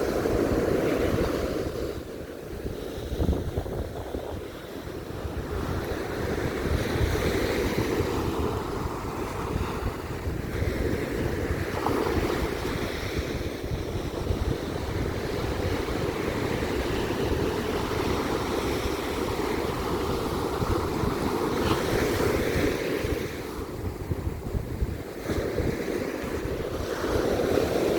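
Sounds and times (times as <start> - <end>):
sea waves breaking on beach: 0.0 - 27.9
wind rumbling on microphone: 0.0 - 27.9.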